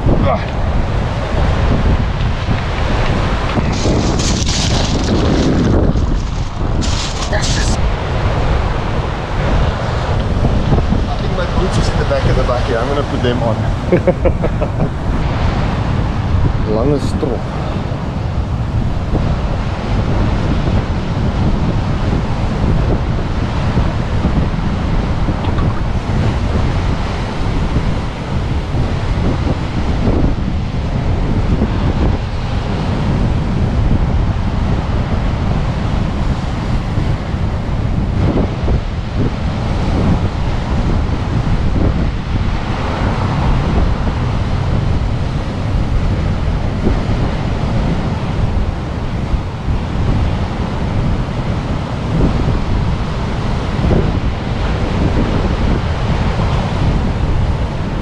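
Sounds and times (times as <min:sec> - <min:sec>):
surf rushing: 0:00.0 - 0:58.0
wind buffeting microphone: 0:00.0 - 0:58.0.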